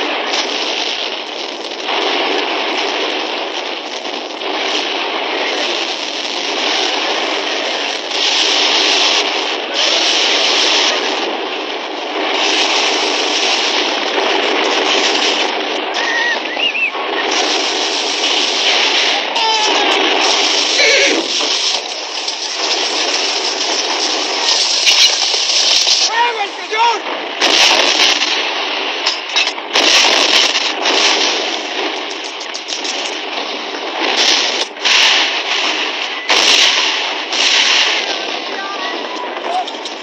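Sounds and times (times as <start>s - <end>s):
gunfire: 0.0s - 40.0s.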